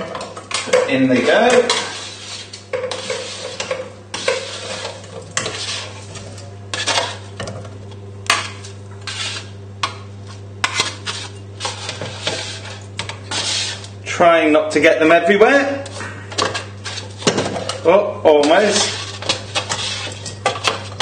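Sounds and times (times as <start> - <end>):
utensil scraping metal tray: 0.0 - 7.3, 8.3 - 14.0, 15.8 - 21.0.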